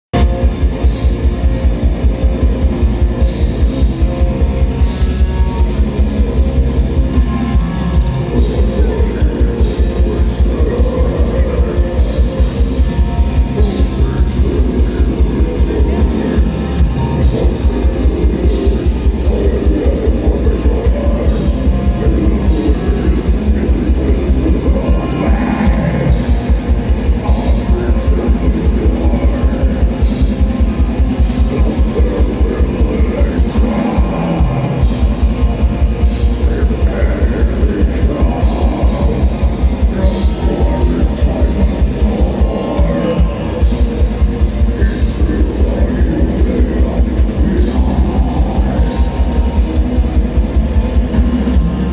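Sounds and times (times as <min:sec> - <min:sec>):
distorted electric guitars: 0:00.0 - 0:51.9
drum kit: 0:00.1 - 0:51.9
fast kick-drum beats: 0:00.1 - 0:51.9.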